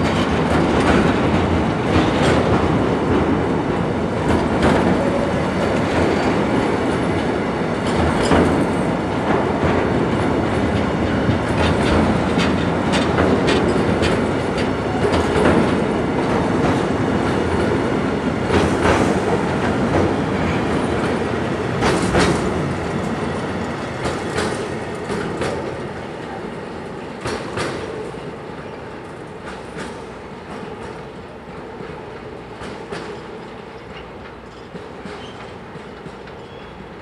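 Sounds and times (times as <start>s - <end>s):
freight train wheels clacking: 0.0s - 37.0s.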